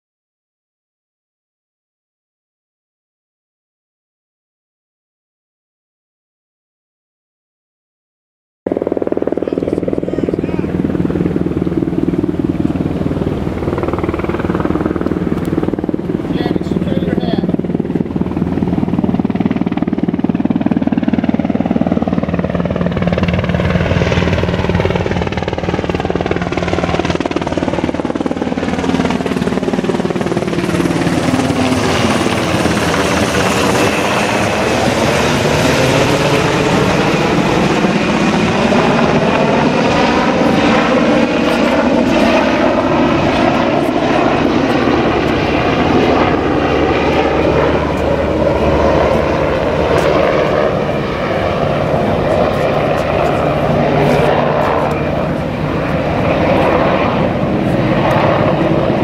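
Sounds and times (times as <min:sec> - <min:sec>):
helicopter rotor and turbine noise: 0:08.6 - 0:59.0.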